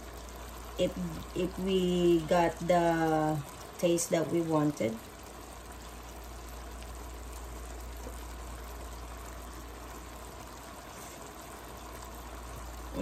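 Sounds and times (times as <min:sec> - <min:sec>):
broth simmering in a wok: 0:00.0 - 0:13.0.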